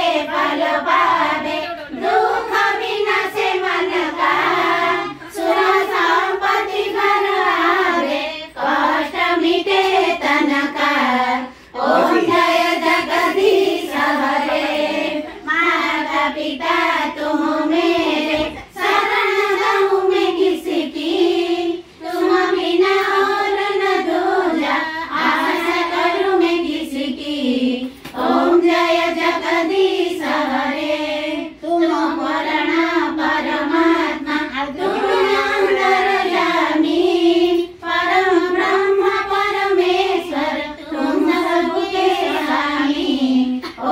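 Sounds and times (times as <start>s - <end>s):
women and girls singing together: 0.0s - 43.9s.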